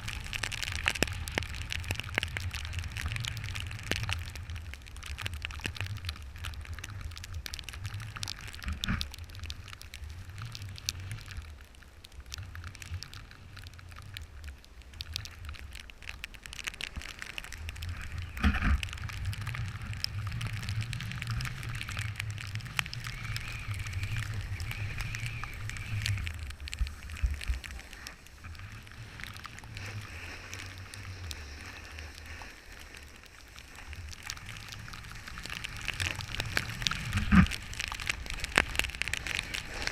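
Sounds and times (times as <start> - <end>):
snowboard crackling on snow: 0.0 - 39.9.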